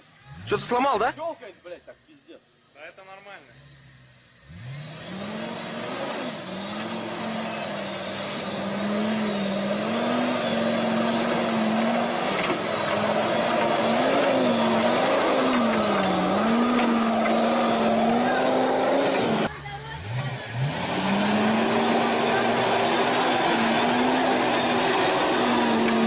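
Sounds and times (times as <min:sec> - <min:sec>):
off-road vehicle engine revving: 0:00.0 - 0:01.3, 0:02.9 - 0:26.0
tyres churning mud: 0:04.9 - 0:26.0.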